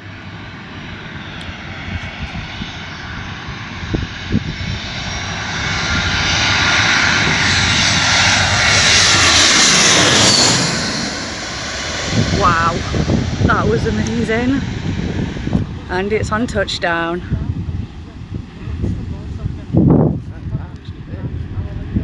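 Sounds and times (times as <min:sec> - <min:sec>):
airliner passing overhead: 0:00.0 - 0:22.0.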